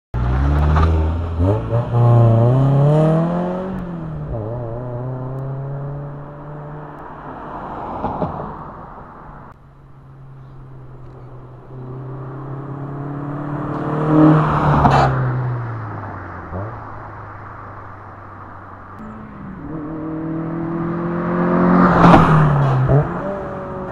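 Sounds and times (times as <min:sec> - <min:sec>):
car engine revving and passing by: 0:00.2 - 0:08.6, 0:10.2 - 0:17.6, 0:19.0 - 0:23.9.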